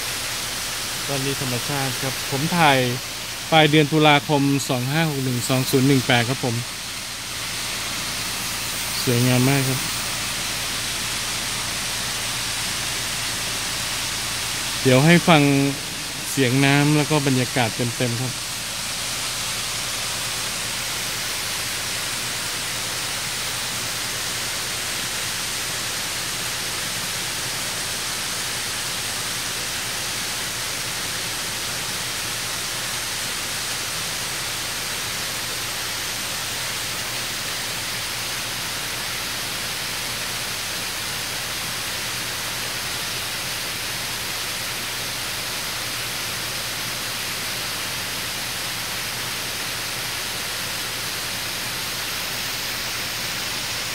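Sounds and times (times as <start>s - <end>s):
small waterfall rushing: 0.0s - 53.9s.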